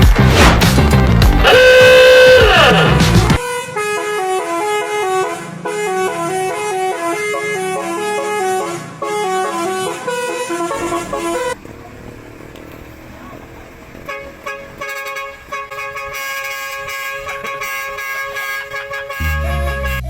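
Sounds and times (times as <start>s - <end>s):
traffic noise: 0.0s - 20.0s
musical horn playing tune: 1.0s - 11.6s, 14.1s - 20.0s
truck horn blast: 1.3s - 11.6s, 14.0s - 20.0s.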